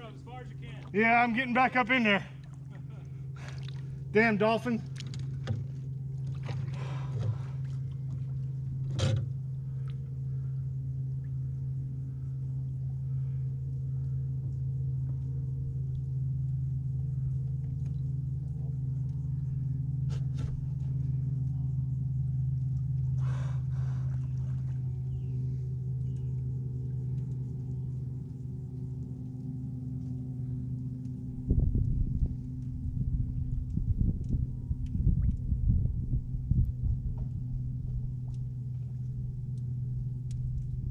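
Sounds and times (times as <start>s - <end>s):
low motor hum: 0.0s - 40.9s.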